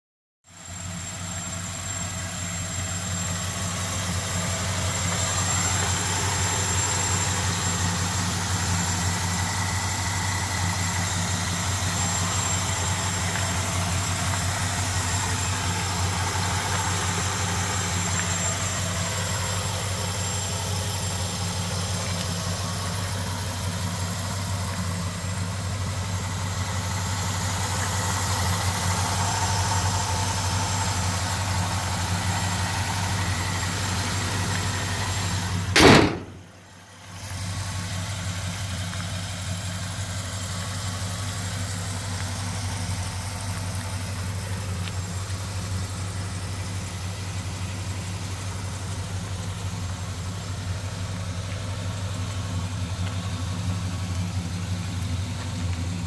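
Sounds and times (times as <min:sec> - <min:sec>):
car engine idling: 0:00.5 - 0:56.0.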